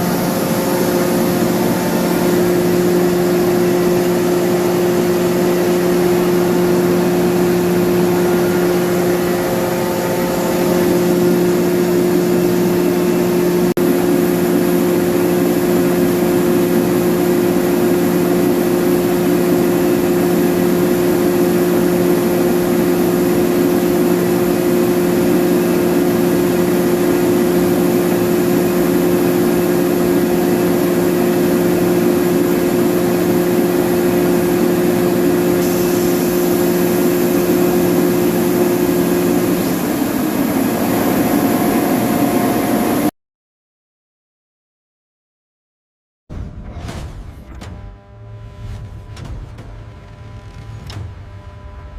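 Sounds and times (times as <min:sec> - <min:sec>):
air compressor running: 0:00.0 - 0:43.1.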